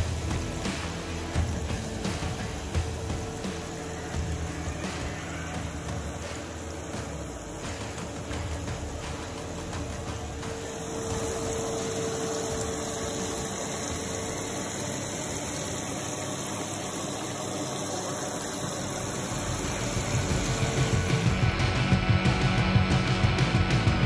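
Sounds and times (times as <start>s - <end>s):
pump humming: 0.0s - 23.9s.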